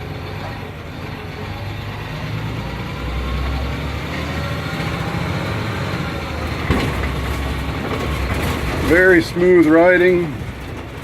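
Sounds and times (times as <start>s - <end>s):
diesel engine low rumble: 0.0s - 11.0s
road noise: 0.0s - 11.0s.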